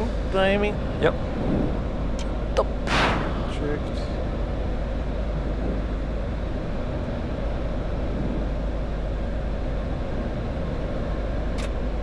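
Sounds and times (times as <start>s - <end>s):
airflow and engine rush: 0.0s - 12.0s.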